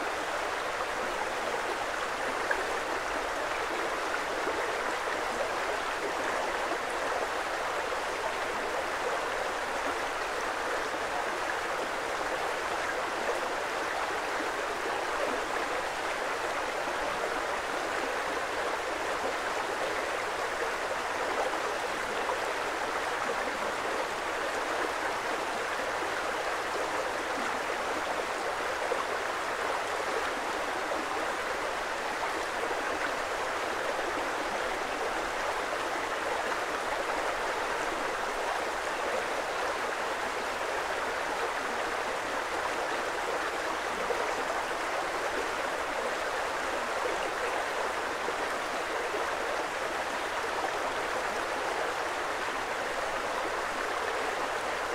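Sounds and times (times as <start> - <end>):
creek water flowing: 0.0 - 54.9.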